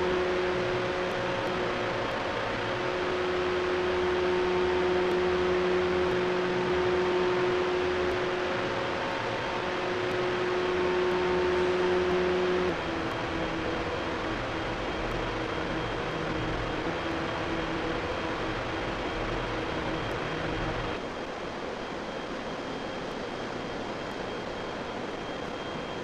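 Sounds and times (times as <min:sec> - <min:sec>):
machinery hum with tones: 0:00.0 - 0:26.0.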